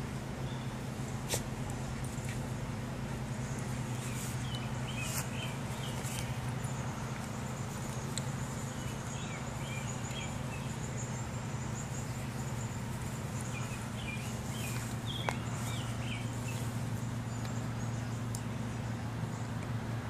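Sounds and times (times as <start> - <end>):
faint high insect drone: 0.0 - 20.0
steady low hum: 0.0 - 20.0
small birds chirping: 0.1 - 19.8.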